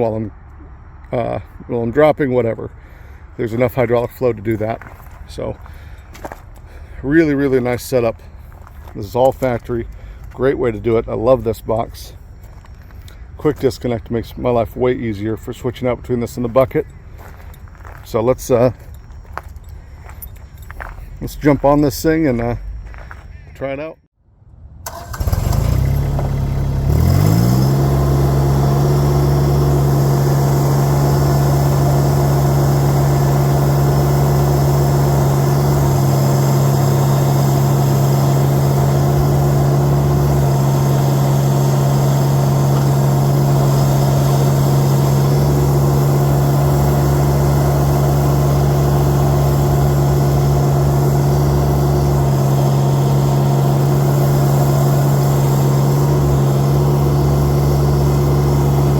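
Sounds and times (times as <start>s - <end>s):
tractor diesel engine running: 0.0s - 23.5s, 24.8s - 58.9s.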